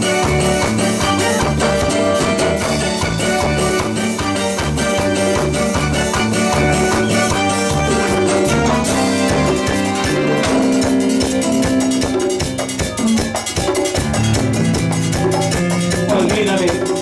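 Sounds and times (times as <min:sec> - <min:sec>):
bass: 0:00.0 - 0:17.0
congas: 0:00.0 - 0:17.0
keyboard: 0:00.0 - 0:17.0.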